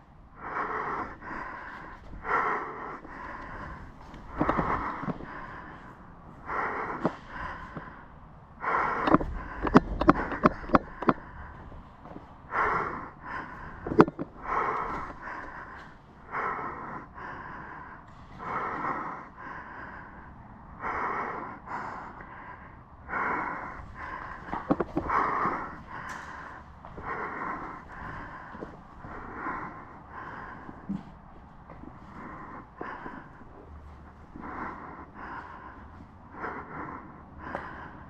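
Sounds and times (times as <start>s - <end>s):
person breathing: 0.0s - 38.0s.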